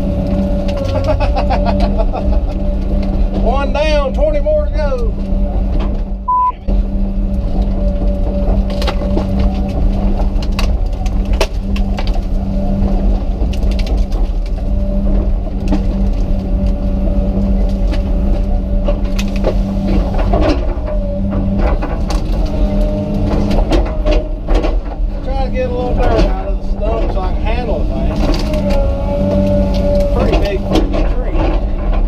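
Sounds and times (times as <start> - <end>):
wood cracking and snapping: 0.0 - 3.6, 7.2 - 32.0
excavator diesel engine running: 0.0 - 32.0.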